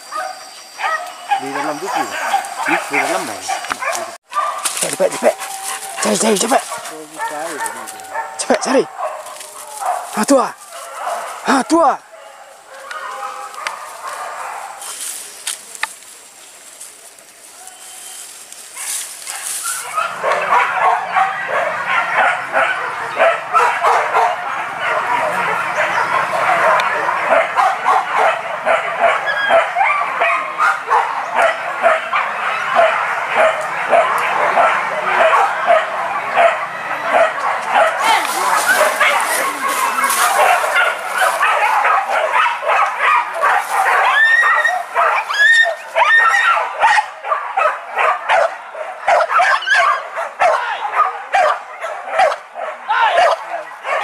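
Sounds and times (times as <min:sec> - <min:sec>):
dogs barking and yelping: 0:00.0 - 0:15.8, 0:17.6 - 0:54.0.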